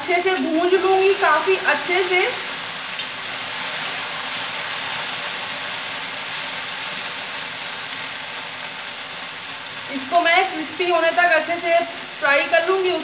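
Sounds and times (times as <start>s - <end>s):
okra sizzling in oil: 0.0s - 13.0s.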